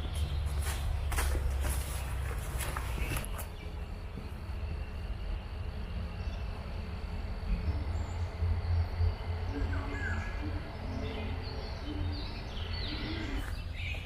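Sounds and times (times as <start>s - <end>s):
faint insect drone: 0.3s - 14.0s
faint bird chirps: 1.8s - 14.0s.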